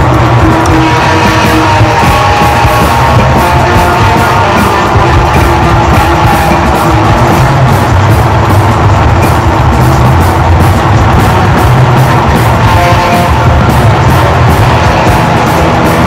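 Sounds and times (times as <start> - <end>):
noisy electric guitar improvisation: 0.0 - 16.0.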